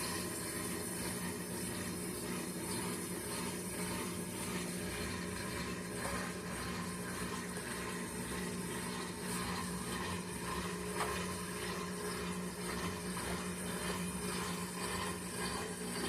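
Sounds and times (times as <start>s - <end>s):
washing machine spin cycle hum: 0.0s - 16.0s
water draining through pump: 0.0s - 16.0s.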